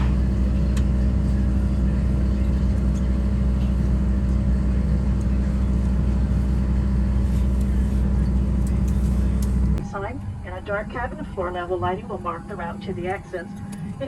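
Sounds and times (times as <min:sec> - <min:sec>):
airliner cabin engine hum: 0:00.0 - 0:14.0.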